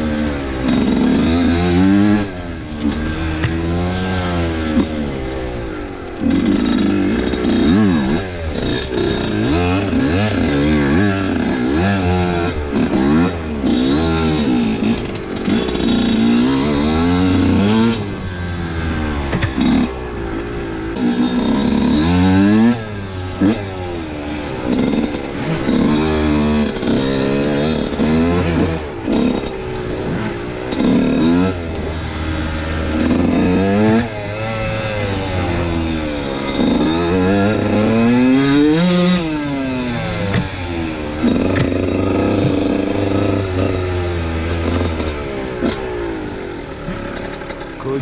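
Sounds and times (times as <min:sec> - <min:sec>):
two-stroke motorcycle engine revving: 0:00.0 - 0:48.0.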